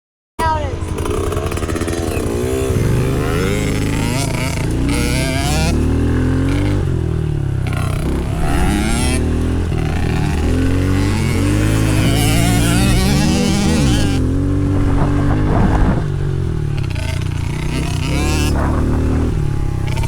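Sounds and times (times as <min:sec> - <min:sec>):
dirt bike engine revving: 0:00.4 - 0:20.0.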